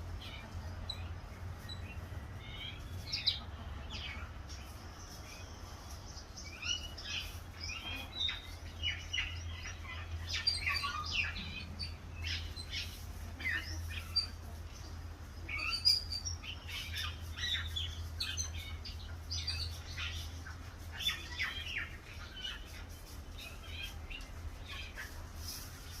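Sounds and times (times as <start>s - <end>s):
low steady hum: 0.0s - 26.0s
small birds chirping: 0.0s - 26.0s.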